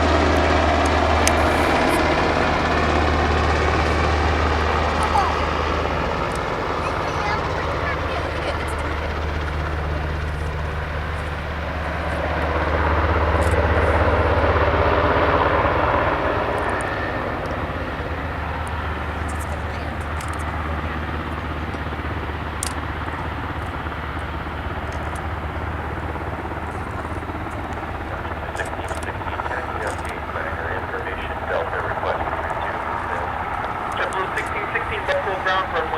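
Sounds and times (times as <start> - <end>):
aircraft engines droning: 0.0 - 35.9.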